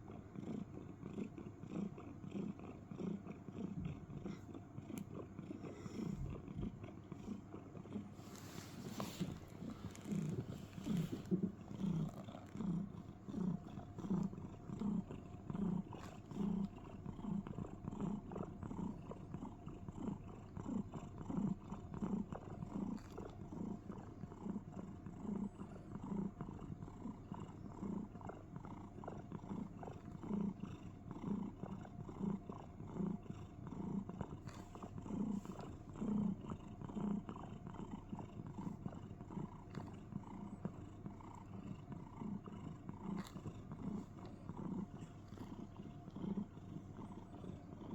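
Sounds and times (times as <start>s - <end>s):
cat purring: 0.0s - 47.9s.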